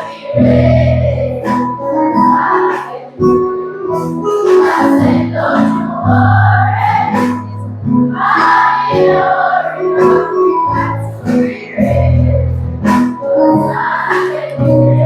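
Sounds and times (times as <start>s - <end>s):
children's choir singing: 0.0s - 15.0s
musical accompaniment with bass: 0.0s - 15.0s.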